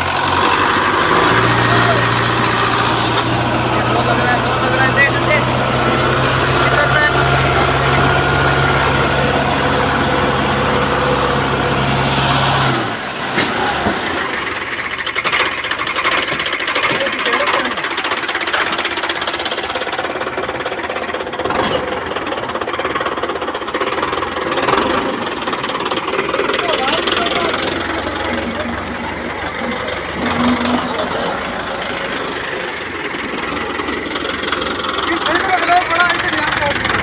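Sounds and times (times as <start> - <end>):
diesel engine humming: 0.0 - 37.0.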